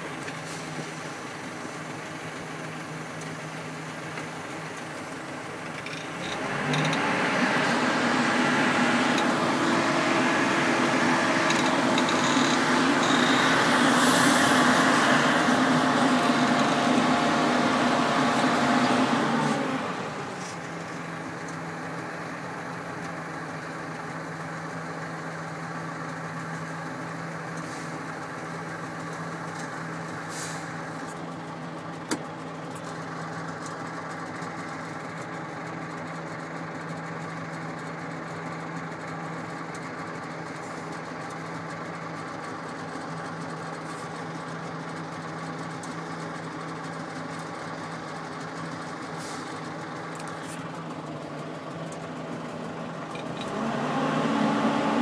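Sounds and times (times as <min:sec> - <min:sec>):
diesel truck engine: 0:00.0 - 0:55.0.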